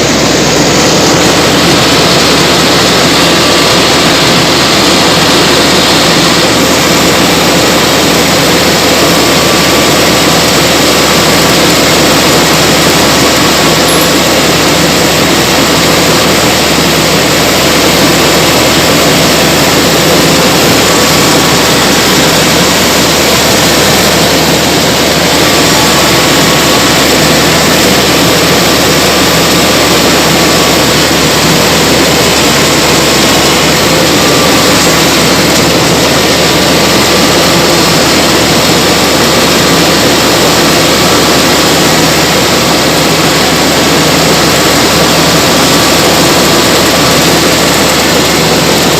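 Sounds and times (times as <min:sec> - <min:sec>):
combine harvester running: 0:00.0 - 0:48.9
faint steady whines: 0:00.0 - 0:48.9.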